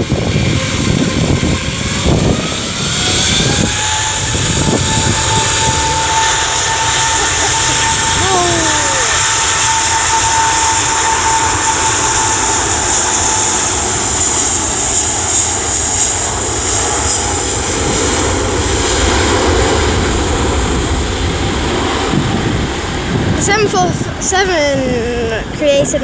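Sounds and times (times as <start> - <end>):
jet engines roaring at take-off: 0.0 - 26.0.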